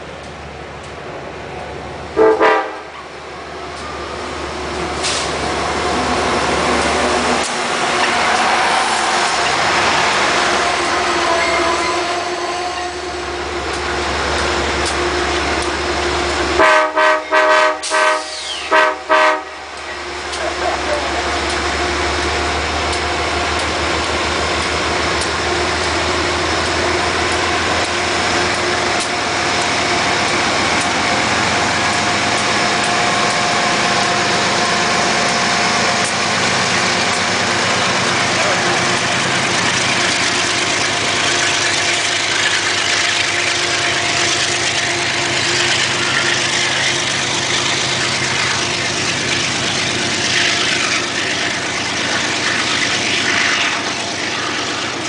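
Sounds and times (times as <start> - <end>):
diesel locomotive engine whine: 0.0 - 55.0
wheels rushing on rails: 0.0 - 55.0.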